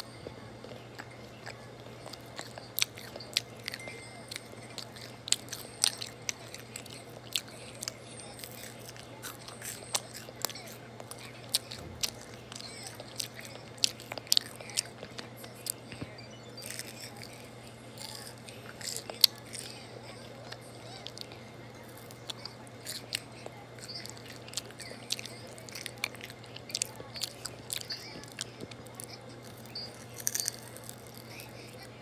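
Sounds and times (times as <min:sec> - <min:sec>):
crunchy chewing: 0:00.0 - 0:32.0
steady low hum: 0:00.0 - 0:32.0.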